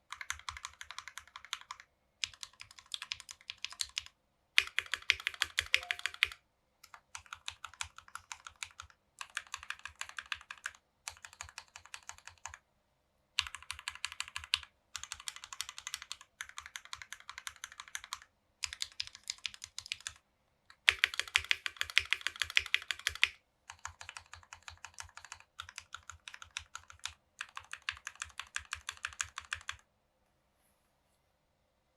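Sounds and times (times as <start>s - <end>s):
mechanical keyboard typing: 0.0s - 12.6s, 13.4s - 29.8s.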